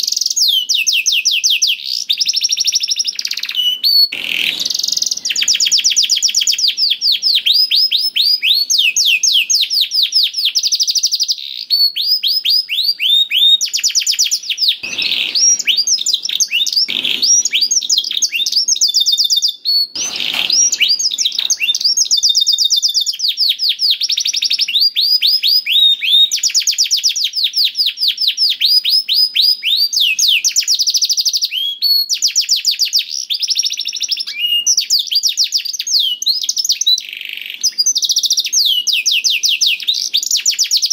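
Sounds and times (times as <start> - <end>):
canary singing fast trills: 0.0 - 40.9.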